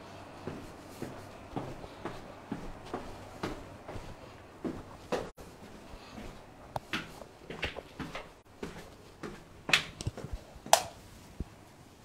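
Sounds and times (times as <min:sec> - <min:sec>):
footsteps: 0:00.2 - 0:11.6.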